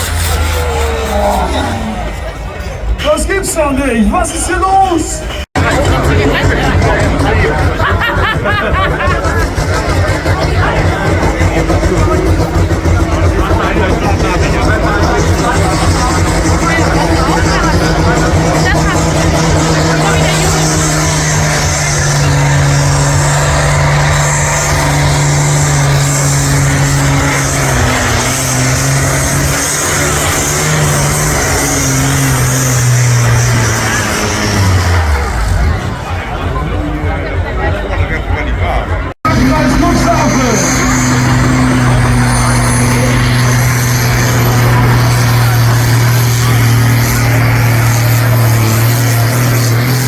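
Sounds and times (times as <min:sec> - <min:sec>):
tractor engine running loud: 0:00.0 - 0:03.1, 0:05.2 - 0:50.0.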